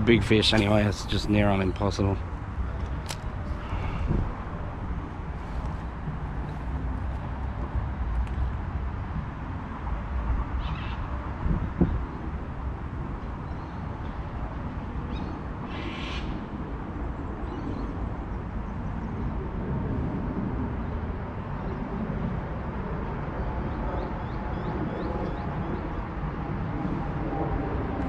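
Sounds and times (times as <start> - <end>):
steady low rumble: 0.0 - 15.6, 16.3 - 28.0.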